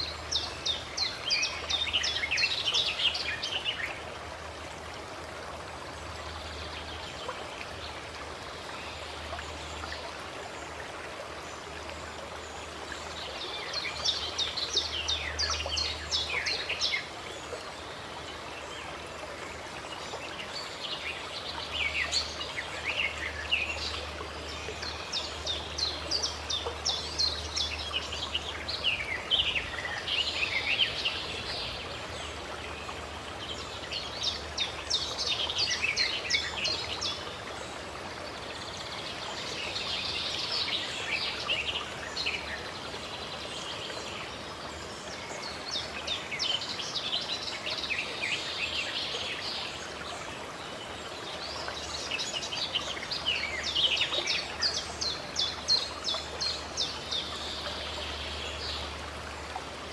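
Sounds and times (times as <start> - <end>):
running water flowing: 0.0 - 59.9.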